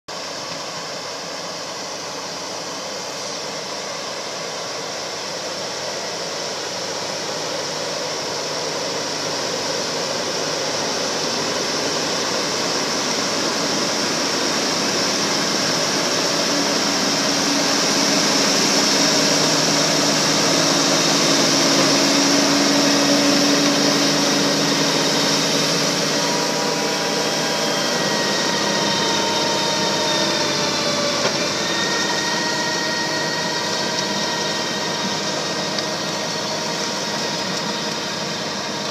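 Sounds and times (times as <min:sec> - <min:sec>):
thin whine: 0:00.2 - 0:38.9
tractor engine running under load: 0:01.9 - 0:38.9
harrow tines working soil: 0:07.4 - 0:38.9.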